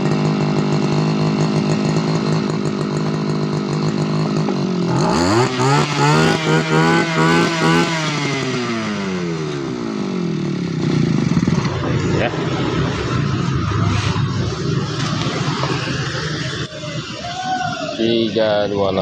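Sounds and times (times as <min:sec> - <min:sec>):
brush cutter engine revving: 0:00.0 - 0:17.2.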